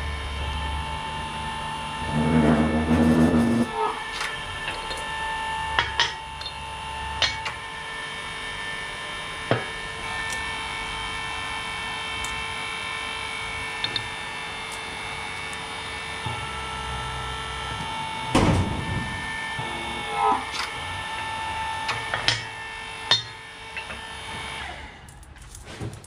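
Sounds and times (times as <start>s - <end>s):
hum of held tones: 0.0s - 24.0s.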